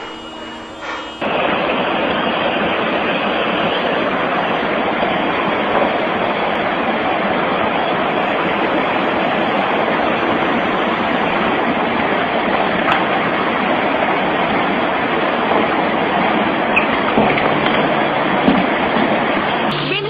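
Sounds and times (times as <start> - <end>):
seawater surging through streets: 0.0 - 20.0.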